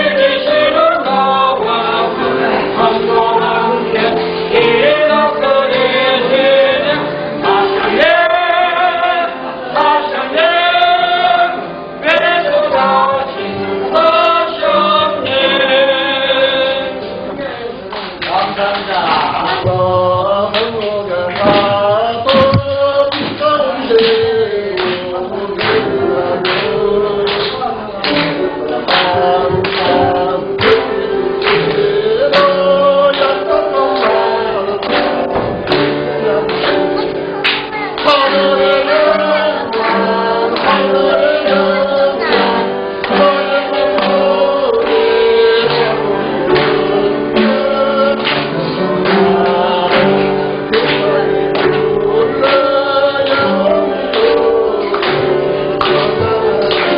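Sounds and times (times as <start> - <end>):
choir singing a hymn: 0.0 - 17.8, 18.4 - 56.9
instrumental accompaniment: 0.0 - 56.9.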